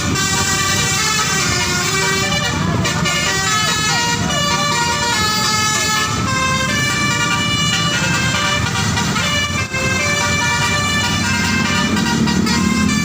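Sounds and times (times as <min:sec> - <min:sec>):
bus multi-tone musical horn: 0:00.0 - 0:13.0.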